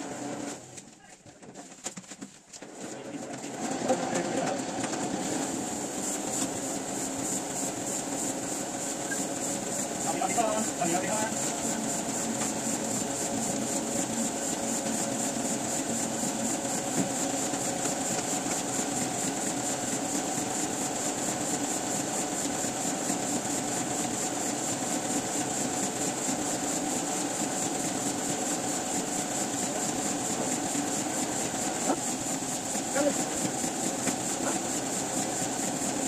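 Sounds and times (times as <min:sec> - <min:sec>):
printing press running: 0:00.0 - 0:36.0.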